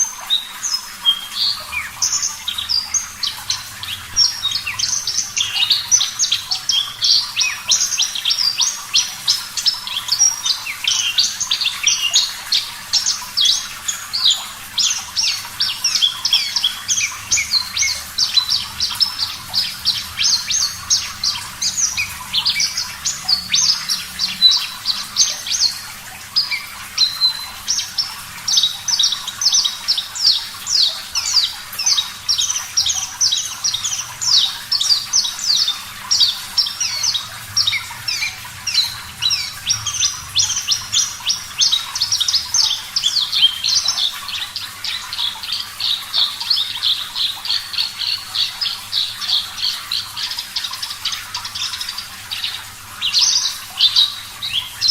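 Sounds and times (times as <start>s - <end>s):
lark singing rapid chirps: 0.0s - 54.9s
running water: 0.0s - 54.9s.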